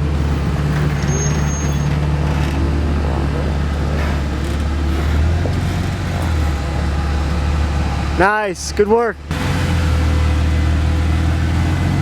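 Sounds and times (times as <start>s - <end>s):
vehicle engine humming low: 0.0s - 12.0s.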